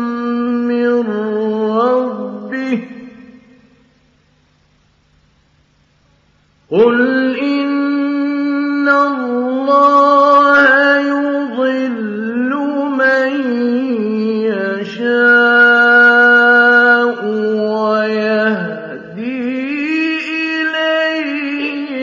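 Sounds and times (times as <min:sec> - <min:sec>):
man chanting recitation: 0:00.0 - 0:03.4, 0:06.7 - 0:22.0.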